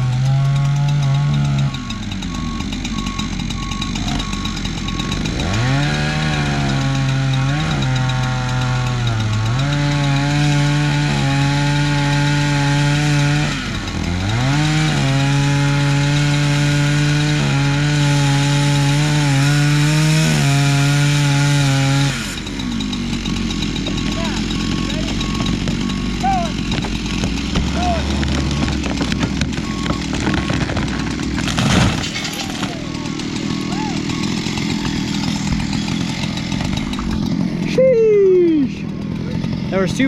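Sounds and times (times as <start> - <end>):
chainsaw cutting tree: 0.0 - 40.0.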